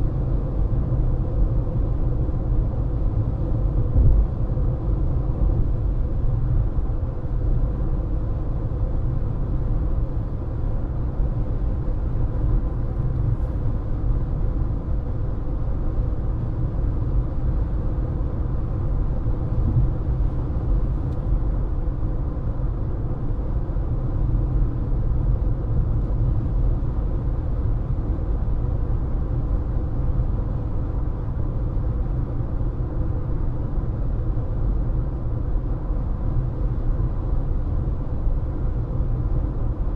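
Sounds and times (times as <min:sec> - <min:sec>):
car road noise at speed: 0:00.0 - 0:39.9.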